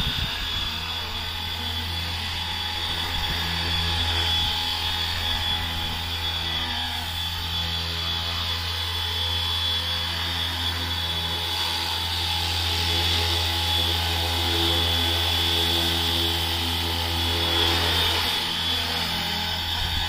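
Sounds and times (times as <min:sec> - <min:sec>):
rc helicopter motor whining: 0:00.0 - 0:20.0
rotor blades humming: 0:00.0 - 0:20.0.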